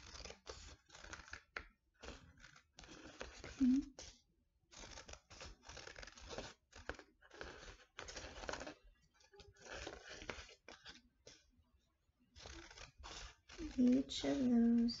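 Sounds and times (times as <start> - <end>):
scissors cutting paper: 0.0 - 11.5, 12.4 - 15.0.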